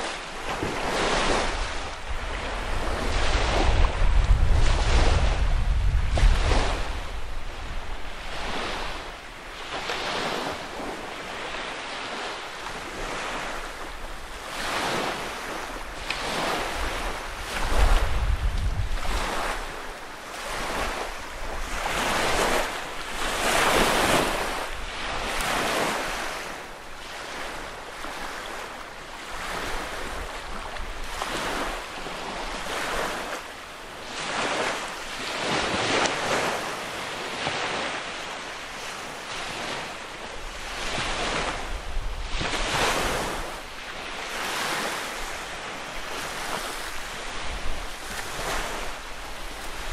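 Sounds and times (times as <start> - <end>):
waves lapping on shore: 0.0 - 49.9
wind rumbling on microphone: 0.2 - 11.7, 12.8 - 33.4, 38.9 - 49.9.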